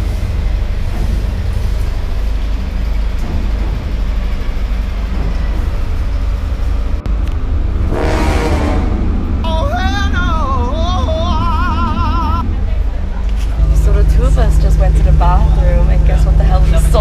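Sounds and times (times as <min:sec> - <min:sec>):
moving train low rumble: 0:00.0 - 0:17.0.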